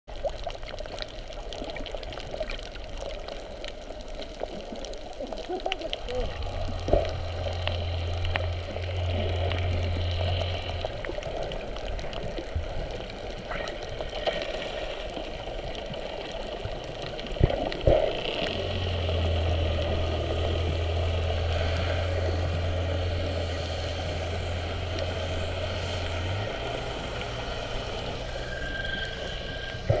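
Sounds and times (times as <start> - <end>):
muffled underwater hum: 0.2 - 30.0.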